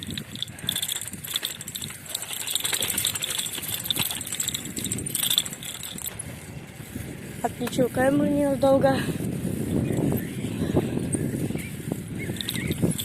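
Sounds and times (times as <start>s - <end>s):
rattling and clicking on rough road: 0.0s - 13.0s
wind noise on microphone: 0.0s - 13.0s.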